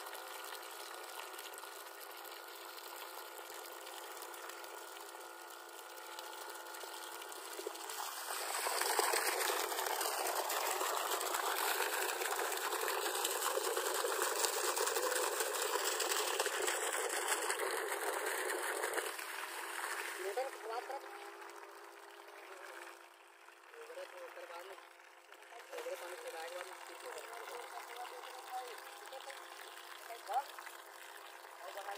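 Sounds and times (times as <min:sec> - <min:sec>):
water gushing from pipe: 0:00.0 - 0:31.9.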